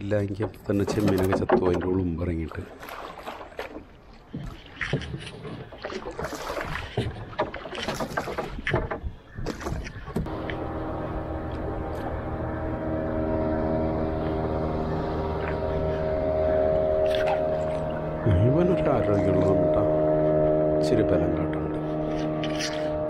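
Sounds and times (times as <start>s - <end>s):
oars splashing in water: 0.0s - 23.0s.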